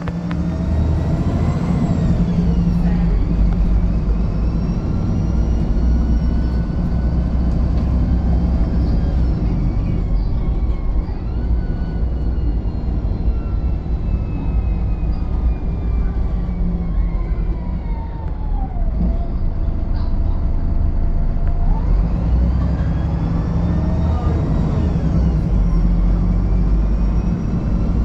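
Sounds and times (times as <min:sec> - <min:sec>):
bus diesel engine rumble: 0:00.0 - 0:28.0.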